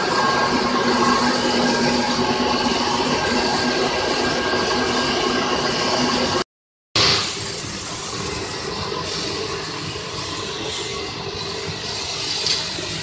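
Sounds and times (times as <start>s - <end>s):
wire drawing machine humming: 0.0s - 6.4s, 7.3s - 13.0s.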